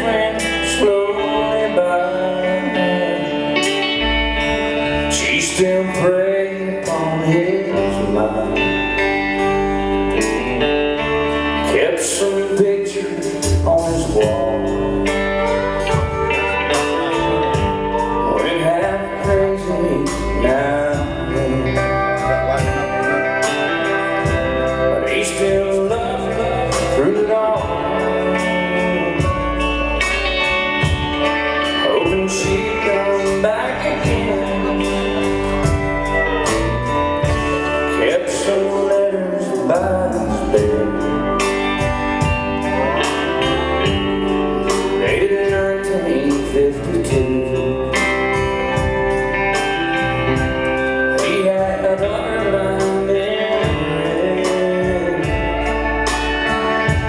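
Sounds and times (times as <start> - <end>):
country band playing slow ballad: 0.0 - 57.0
male lead vocal: 0.0 - 57.0
pedal steel guitar: 0.0 - 57.0.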